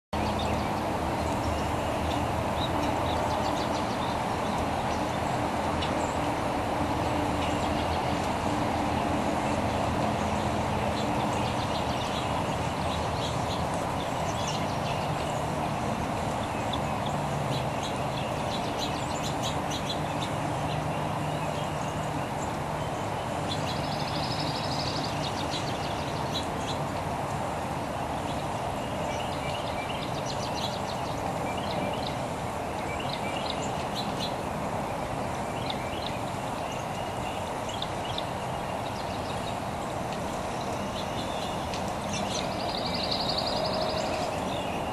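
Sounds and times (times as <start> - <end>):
birds chirping: 0.2 - 44.9
steady rushing noise: 0.2 - 44.9.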